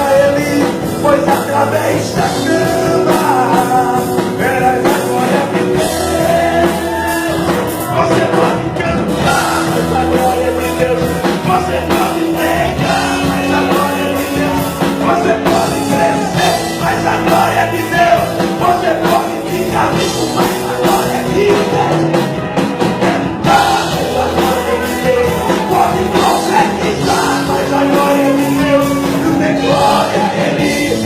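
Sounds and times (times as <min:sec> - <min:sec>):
person singing: 0:00.0 - 0:31.0
rock band playing: 0:00.0 - 0:31.0.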